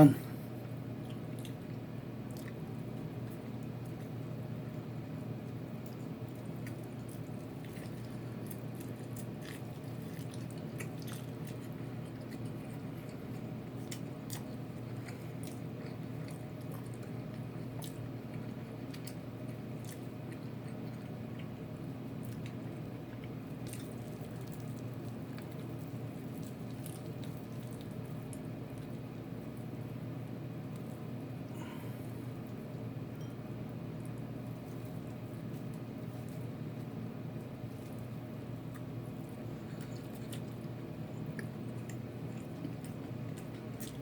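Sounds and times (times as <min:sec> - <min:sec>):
steady low hum: 0:00.0 - 0:44.0
person chewing crispy food: 0:00.6 - 0:30.0, 0:34.0 - 0:44.0.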